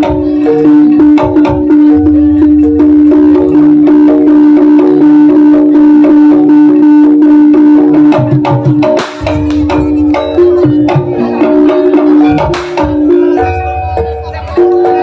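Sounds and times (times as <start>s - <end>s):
hand drums: 0.0s - 15.0s
pitched percussion: 0.0s - 15.0s.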